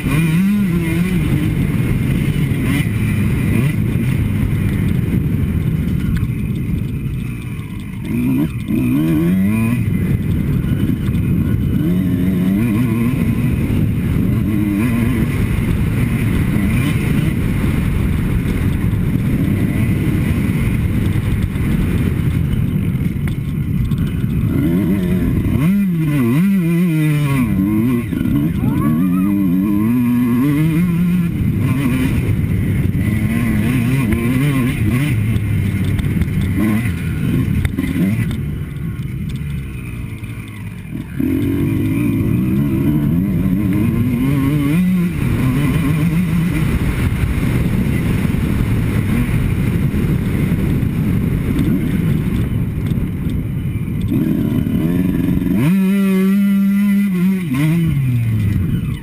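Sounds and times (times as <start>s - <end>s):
two-stroke motocross engine revving: 0.0s - 59.0s
wind noise: 0.0s - 59.0s.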